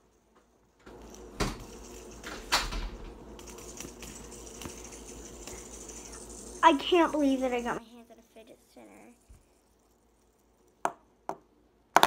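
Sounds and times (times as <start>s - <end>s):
faint steady hum: 0.0s - 12.0s
fidget spinner clicks: 0.8s - 10.9s.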